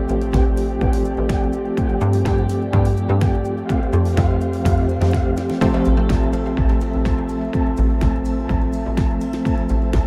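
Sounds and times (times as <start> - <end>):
held synth tones: 0.0 - 10.0
kick drum beat: 0.0 - 10.0.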